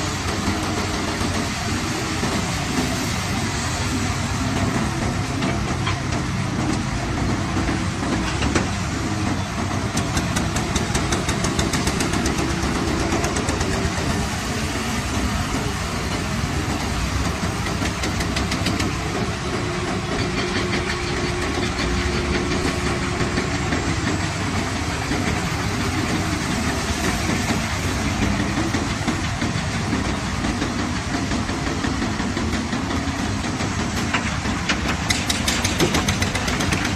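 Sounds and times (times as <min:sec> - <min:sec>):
diesel engine under load: 0:00.0 - 0:36.9.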